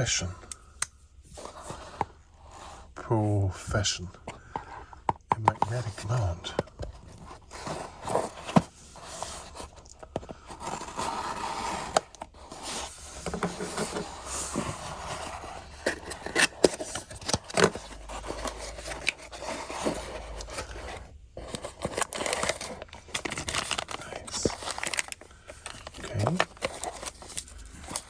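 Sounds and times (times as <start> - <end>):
packaging scraping and rustling: 5.5 - 28.0.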